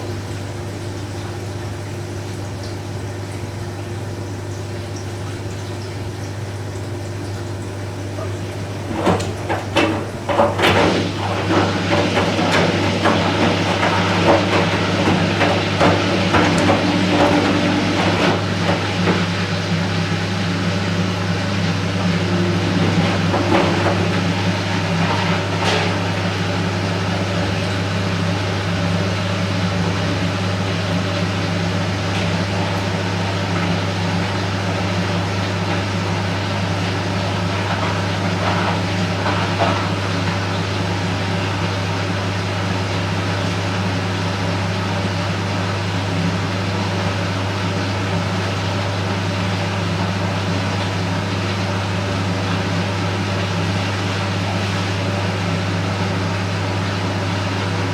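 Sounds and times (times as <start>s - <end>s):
washing machine humming: 0.0s - 57.9s.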